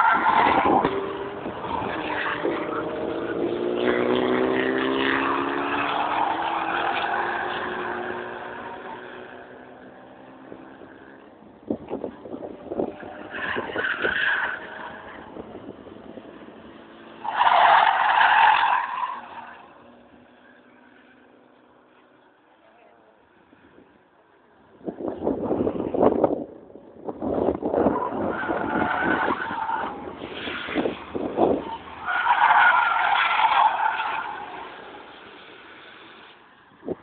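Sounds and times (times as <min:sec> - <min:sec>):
race car engines: 0:00.0 - 0:37.0.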